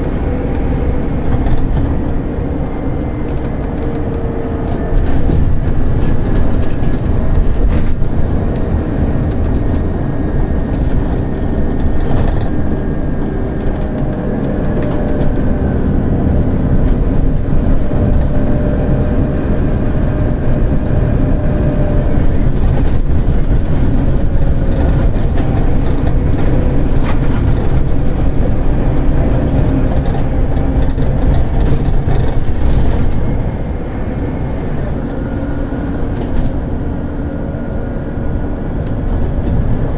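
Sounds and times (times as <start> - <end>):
bus diesel engine under full throttle: 0.0 - 39.9.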